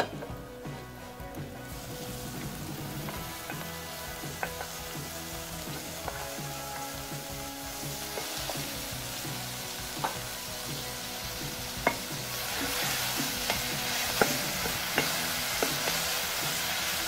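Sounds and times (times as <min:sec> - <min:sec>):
vegetables sizzling in a pot: 0:00.0 - 0:17.0.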